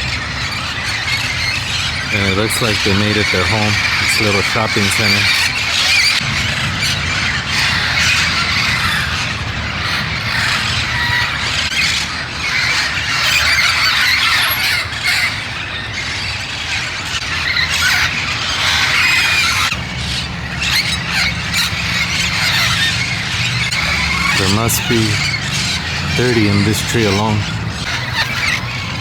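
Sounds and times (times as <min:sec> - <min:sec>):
parrots squawking and screeching: 0:00.0 - 0:29.0.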